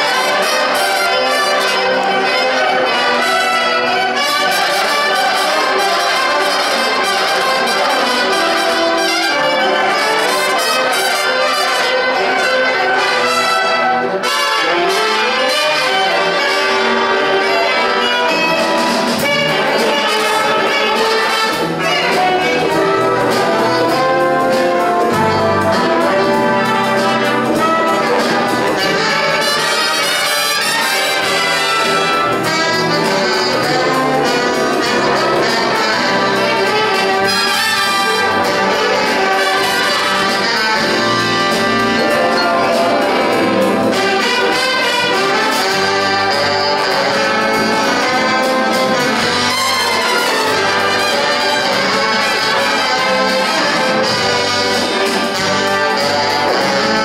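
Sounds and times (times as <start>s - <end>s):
big band playing jazz: 0.0s - 57.0s
drum kit and cymbals: 0.0s - 57.0s.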